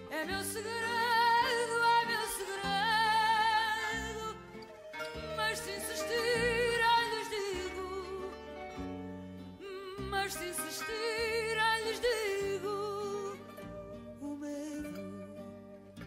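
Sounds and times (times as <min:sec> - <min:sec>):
plucked guitar bass notes: 0:00.0 - 0:16.0.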